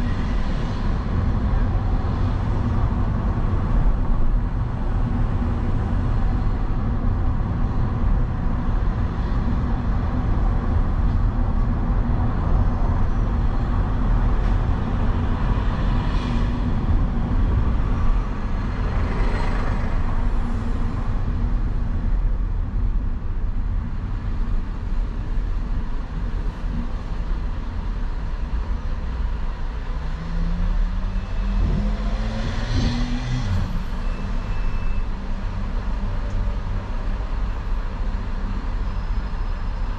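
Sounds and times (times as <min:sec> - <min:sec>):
vehicle engine and tyres rumbling: 0:00.0 - 0:39.9
vehicles passing: 0:00.0 - 0:39.9.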